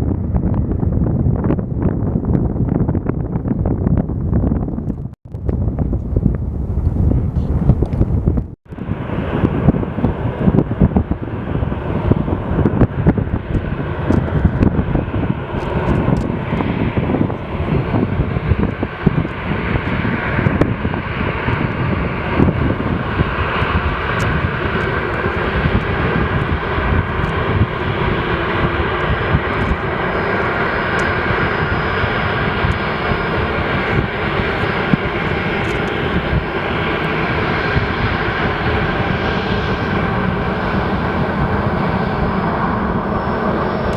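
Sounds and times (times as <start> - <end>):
airplane engines running: 0.0 - 43.9
wind buffeting microphone: 0.0 - 43.9
steady engine whine: 5.0 - 43.9.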